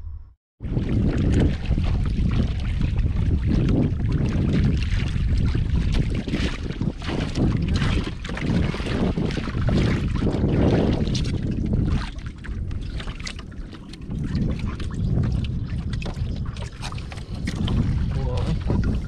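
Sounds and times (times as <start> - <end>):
wind buffeting microphone: 0.0 - 19.0
knocks and splashes: 0.6 - 19.0
water lapping against canoe: 0.6 - 19.0.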